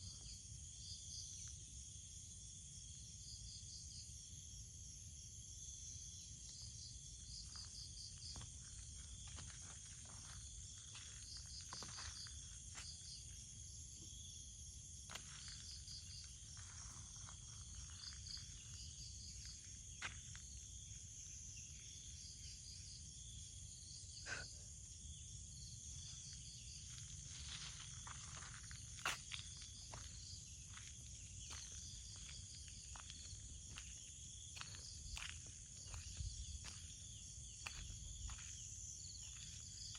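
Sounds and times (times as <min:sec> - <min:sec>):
insects chirring: 0:00.0 - 0:39.9
pulsed insect trills: 0:00.0 - 0:39.9.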